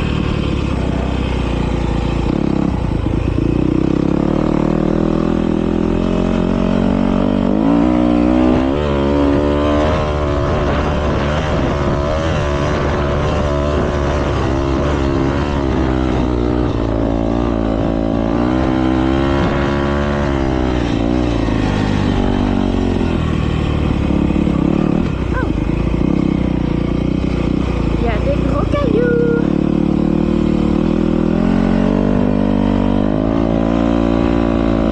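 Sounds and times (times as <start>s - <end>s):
motocross bikes revving: 0.0s - 34.9s.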